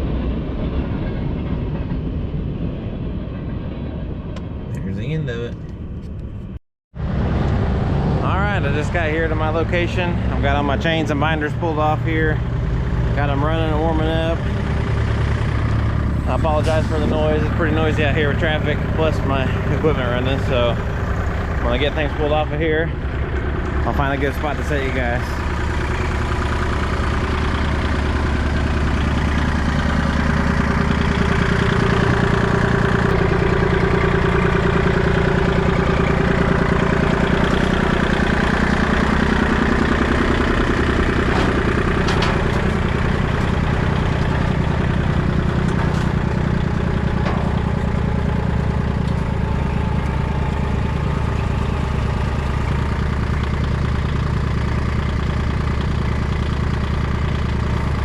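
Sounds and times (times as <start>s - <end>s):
diesel engines idling: 7.0s - 58.0s.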